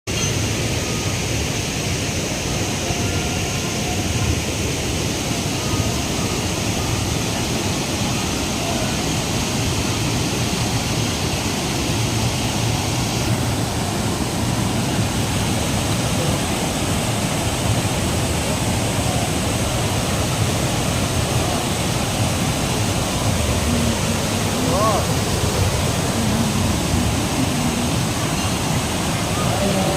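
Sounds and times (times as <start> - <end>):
waterfall roaring: 0.1 - 29.9.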